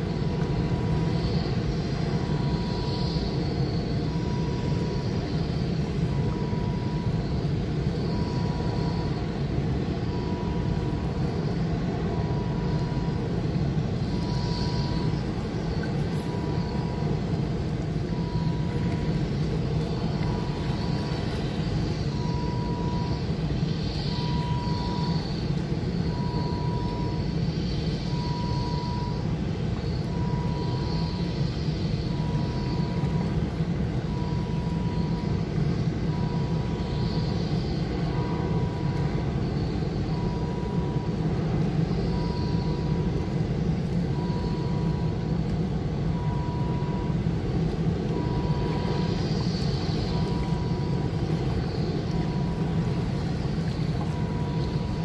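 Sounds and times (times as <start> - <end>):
low outdoor rumble: 0.0 - 55.0
faint high beep: 2.2 - 5.1, 6.0 - 11.3, 12.0 - 29.3, 30.0 - 35.4, 36.0 - 43.2, 44.1 - 45.2, 46.1 - 47.2, 48.0 - 51.5, 54.0 - 55.0.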